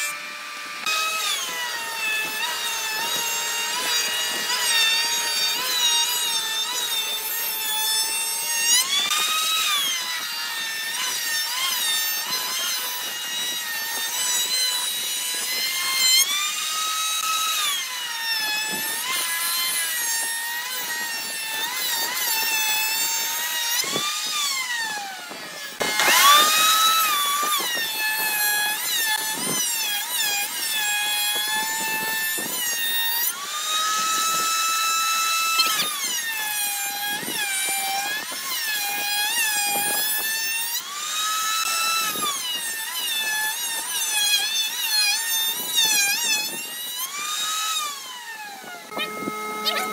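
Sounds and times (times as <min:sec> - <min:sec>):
power cutter whining through wood: 0:00.0 - 0:49.9.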